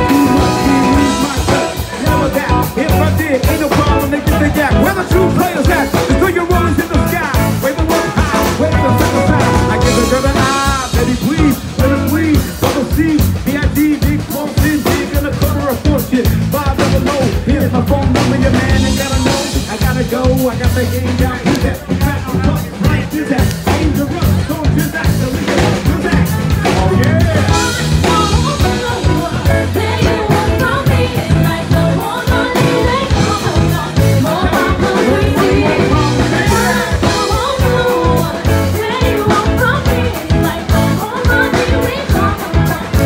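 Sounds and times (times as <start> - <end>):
drum kit beat: 0.0 - 43.0
live rock band playing: 0.0 - 43.0.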